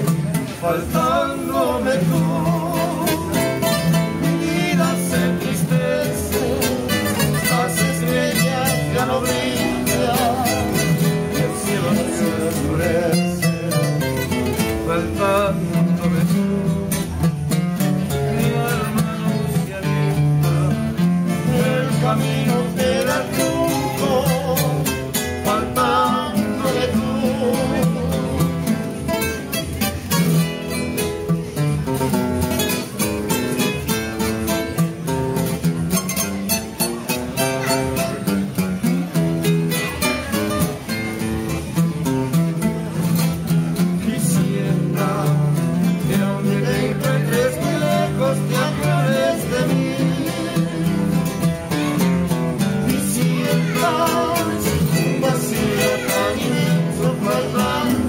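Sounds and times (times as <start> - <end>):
guitar picking melody with vibrato: 0.0 - 58.0
guitar strumming chords: 0.0 - 58.0.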